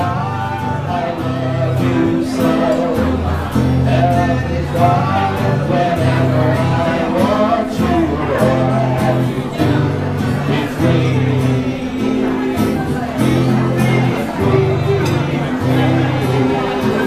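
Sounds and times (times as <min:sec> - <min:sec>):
acoustic guitar: 0:00.0 - 0:17.0
man singing into a microphone: 0:00.0 - 0:17.0.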